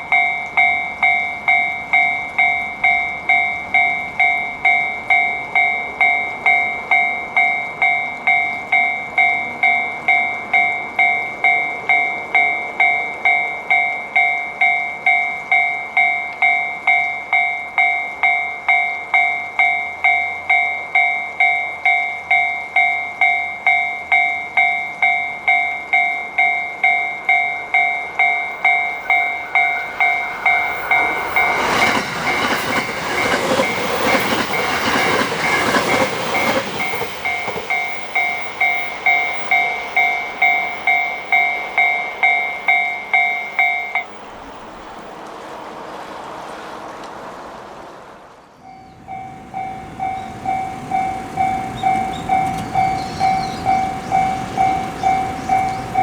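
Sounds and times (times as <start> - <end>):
crossing warning bell ringing: 0.0 - 45.2, 48.6 - 56.0
train rumbling through: 0.0 - 56.0.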